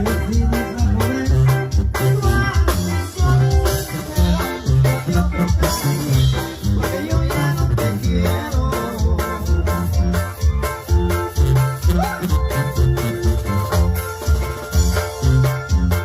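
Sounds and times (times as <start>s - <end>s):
upbeat dance band music: 0.0s - 16.0s.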